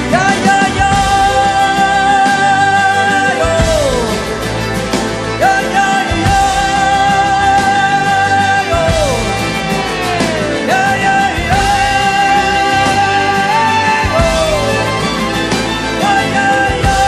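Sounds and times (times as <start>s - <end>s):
dense musical backing: 0.0s - 17.0s.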